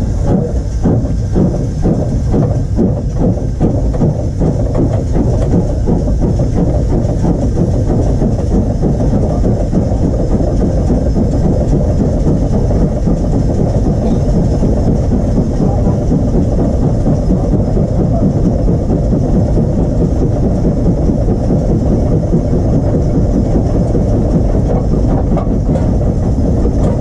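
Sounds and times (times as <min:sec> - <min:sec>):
steam locomotive rumble and clatter: 0:00.0 - 0:27.0.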